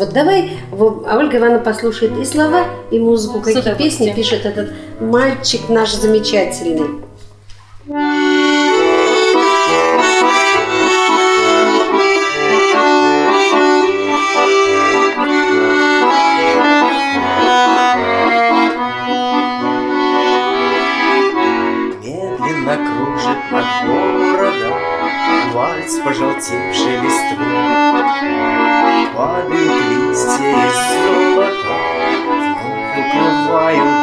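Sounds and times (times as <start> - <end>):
button accordion playing waltz: 0.0 - 34.0.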